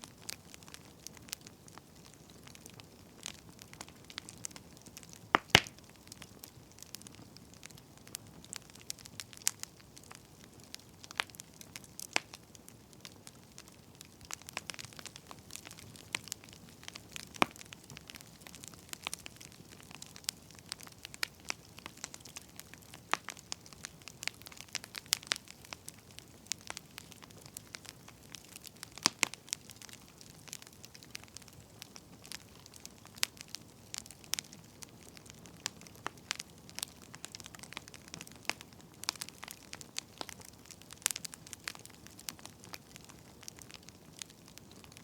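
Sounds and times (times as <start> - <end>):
faint steady hiss: 0.0 - 45.0
firewood crackling and popping: 0.0 - 45.0.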